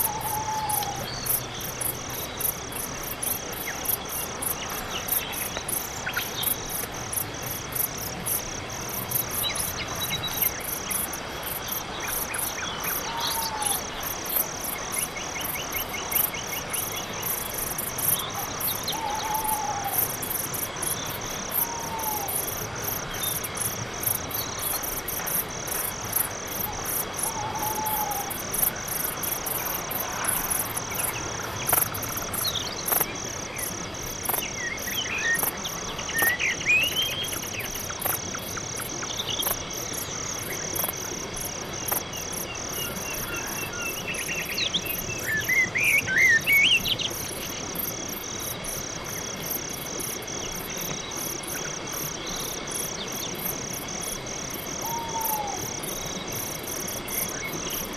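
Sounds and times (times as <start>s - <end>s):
crickets chirping: 0.0s - 57.9s.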